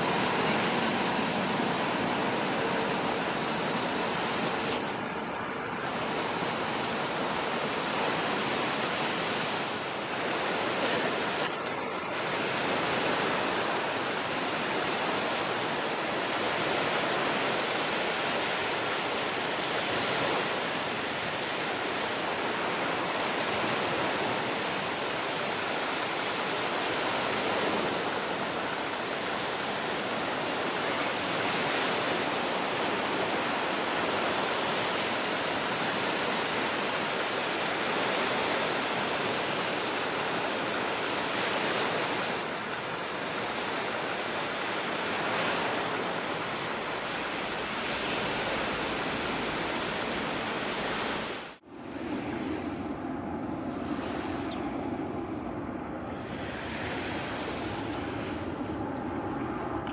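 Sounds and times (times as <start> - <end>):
sea surf washing on beach: 0.0 - 59.9.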